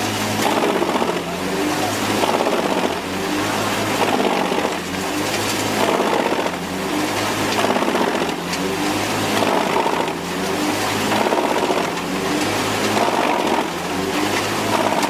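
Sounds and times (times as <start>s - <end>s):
wood chipper engine drone: 0.0s - 15.0s
wood grinding: 0.0s - 15.0s.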